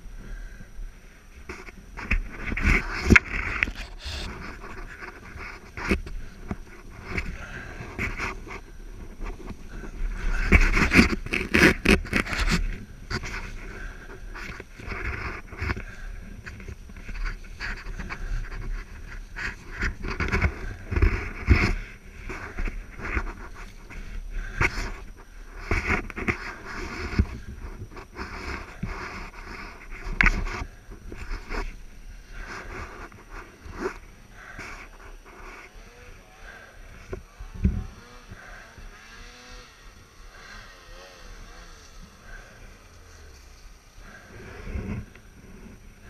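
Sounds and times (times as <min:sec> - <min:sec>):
person breathing hard: 0:00.0 - 0:01.5, 0:02.6 - 0:46.0
snow crunching and scraping: 0:01.3 - 0:46.0.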